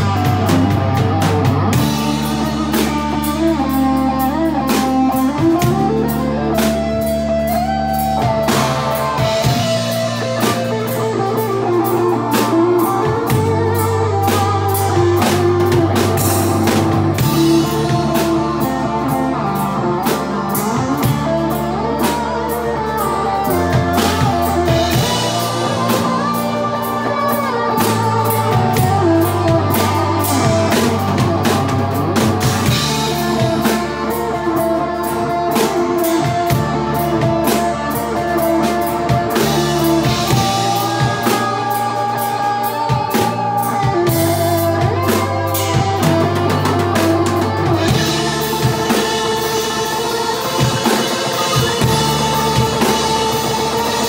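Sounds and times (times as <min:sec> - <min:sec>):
drum kit steady rhythm: 0:00.0 - 0:54.0
electric guitars: 0:00.0 - 0:54.0
live rock band playing: 0:00.0 - 0:54.0.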